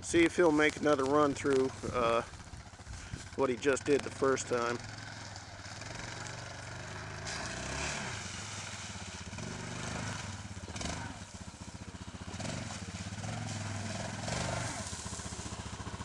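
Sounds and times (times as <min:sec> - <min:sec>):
quad bike engine revving: 0:00.1 - 0:16.0.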